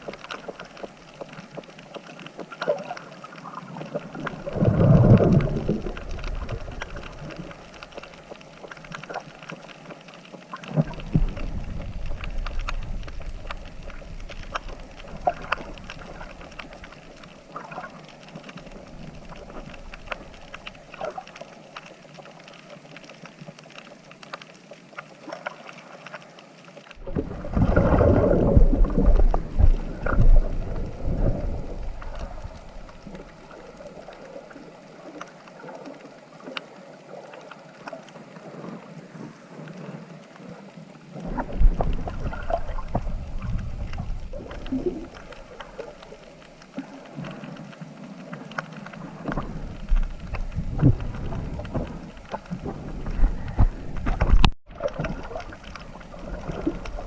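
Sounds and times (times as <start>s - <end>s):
water sloshing and rumbling: 0.0s - 57.0s.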